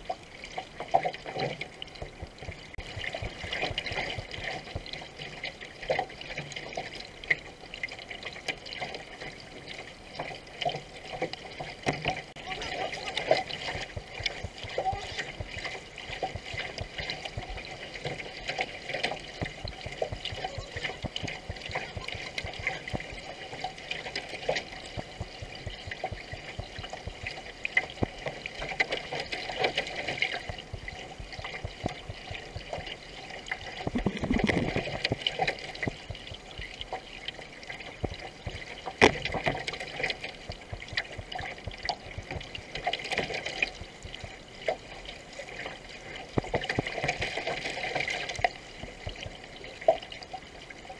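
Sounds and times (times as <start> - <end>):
water rushing along hull: 0.0 - 50.9
paddle stroke splashes: 9.9 - 50.9.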